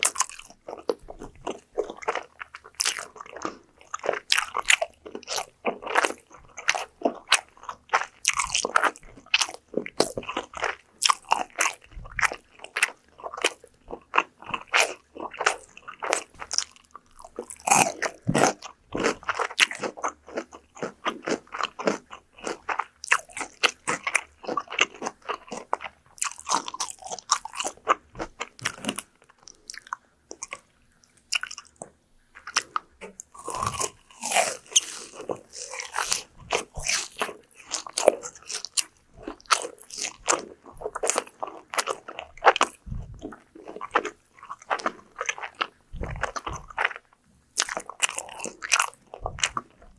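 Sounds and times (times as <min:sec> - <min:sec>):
crunchy chewing of fried food: 0:00.0 - 0:49.9.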